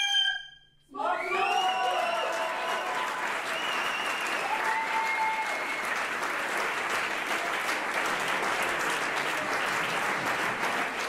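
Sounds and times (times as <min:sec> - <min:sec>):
crowd applause: 0:01.4 - 0:11.0.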